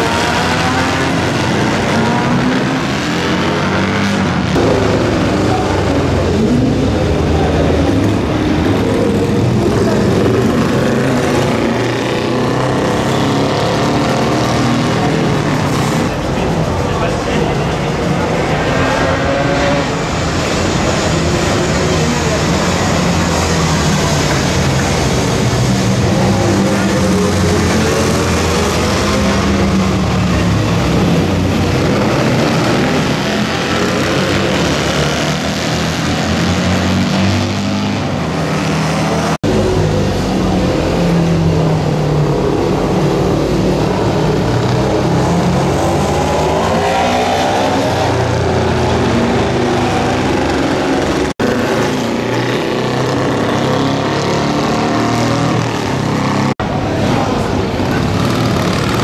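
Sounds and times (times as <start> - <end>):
motorcycles revving and passing: 0.0 - 59.0.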